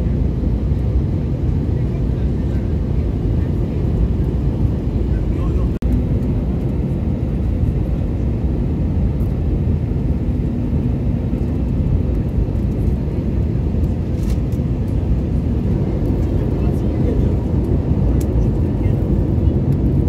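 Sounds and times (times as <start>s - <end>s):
jet engines inside cabin: 0.0s - 20.0s.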